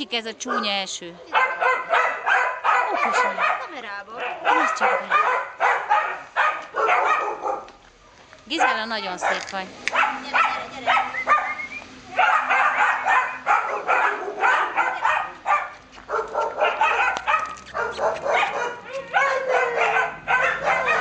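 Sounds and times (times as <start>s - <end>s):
dogs barking and yipping: 0.4s - 7.9s, 8.5s - 21.0s.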